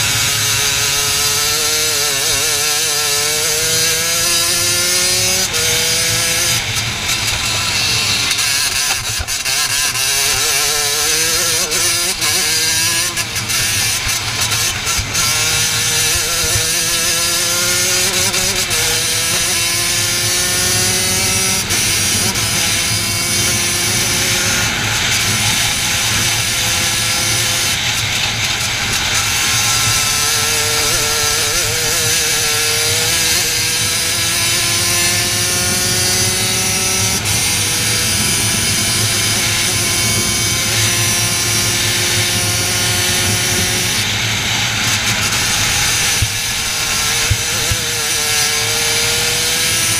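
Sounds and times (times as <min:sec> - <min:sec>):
racing kart engine: 0:00.0 - 0:49.9
steady rushing noise: 0:00.0 - 0:49.9.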